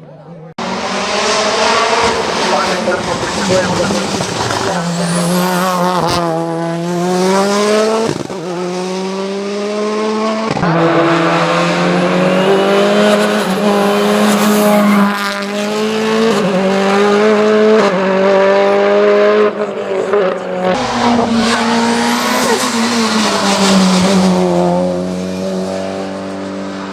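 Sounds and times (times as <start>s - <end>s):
engine revving at full throttle: 0.6s - 26.9s.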